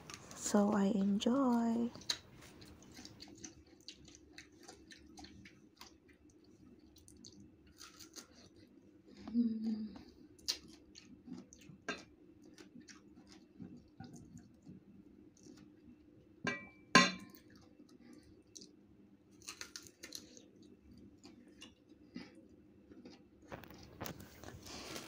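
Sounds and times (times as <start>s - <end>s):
chewing crisp mango: 0.0s - 16.1s, 17.3s - 25.0s.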